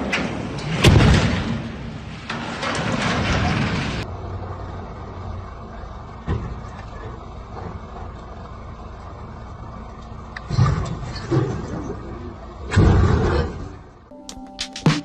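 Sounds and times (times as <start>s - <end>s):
low vehicle rumble: 0.0s - 14.1s.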